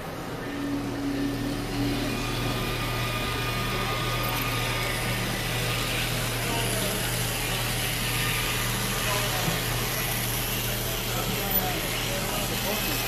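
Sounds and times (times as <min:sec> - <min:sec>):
model train motor humming: 0:00.0 - 0:13.0
wheels rolling on track: 0:00.0 - 0:13.0.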